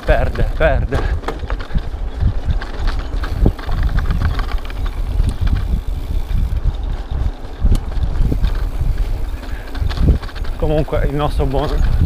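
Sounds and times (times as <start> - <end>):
mountain bike rumble and rattle: 0.0 - 12.0
wind buffeting microphone: 0.0 - 12.0.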